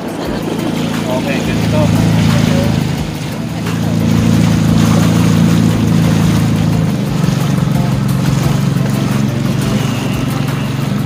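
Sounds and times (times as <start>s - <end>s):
motorboat engine droning: 0.0s - 11.0s
water hissing past boat: 0.0s - 11.0s.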